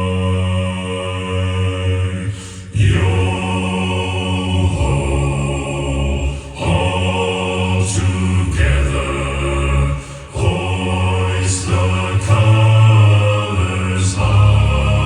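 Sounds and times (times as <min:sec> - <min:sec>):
choir singing chords: 0:00.0 - 0:15.0.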